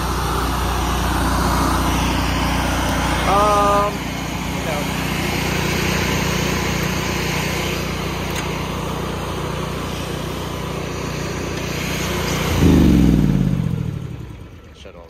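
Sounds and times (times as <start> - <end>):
engine running and winding down: 0.0 - 15.0.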